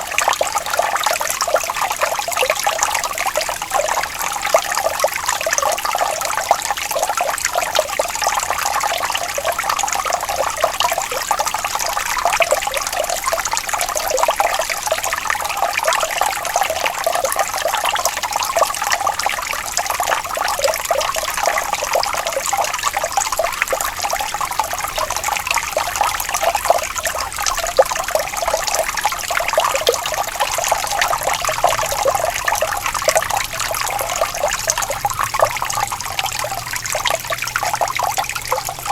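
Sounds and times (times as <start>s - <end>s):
water trickling and bubbling: 0.0s - 38.9s.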